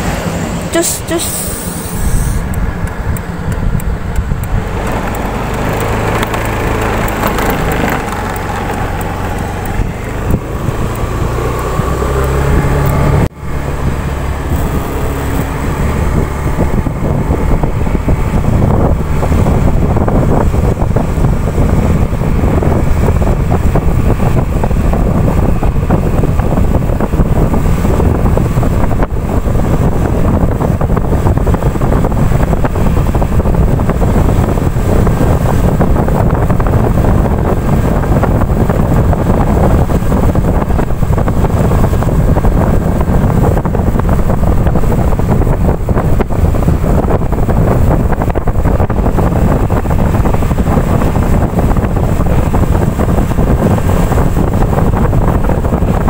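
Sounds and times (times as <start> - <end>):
wind rushing over microphone: 0.0 - 56.0
motorbike engine running: 0.6 - 56.0.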